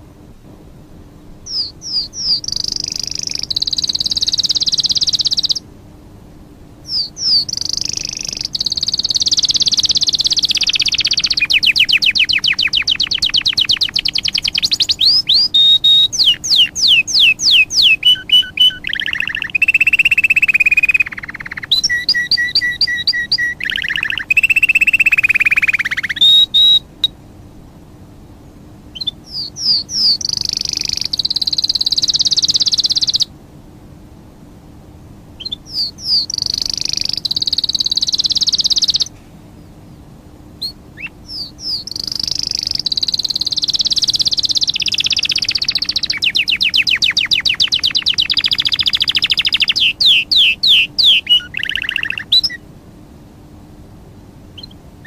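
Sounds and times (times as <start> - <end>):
songbird singing trills: 1.4 - 5.7, 6.8 - 27.2, 28.9 - 33.3, 35.4 - 52.7, 54.5 - 55.0.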